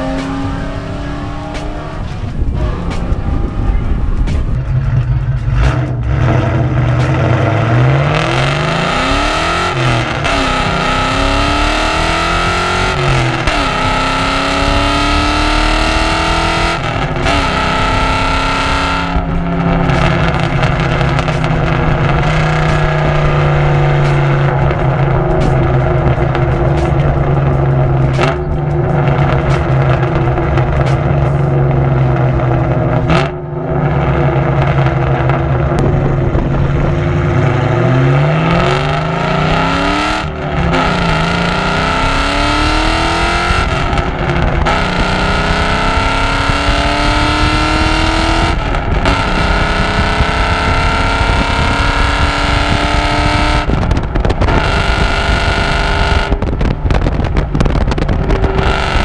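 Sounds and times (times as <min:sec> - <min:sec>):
car engine accelerating with upshifts: 0:00.0 - 0:59.0.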